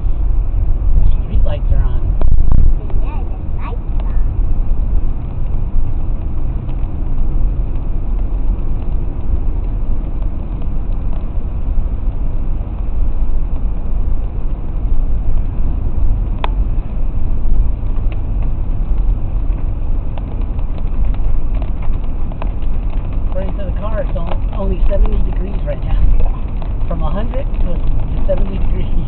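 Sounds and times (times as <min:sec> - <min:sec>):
road and tyre rumble: 0:00.0 - 0:29.0
rain and spray hiss: 0:02.1 - 0:29.0.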